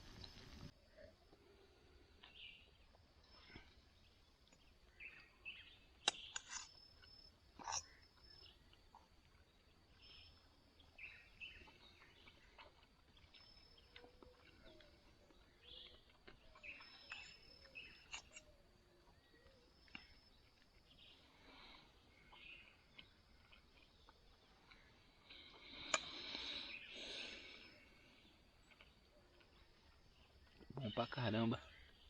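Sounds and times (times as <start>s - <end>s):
bird chirps: 2.2s - 32.0s.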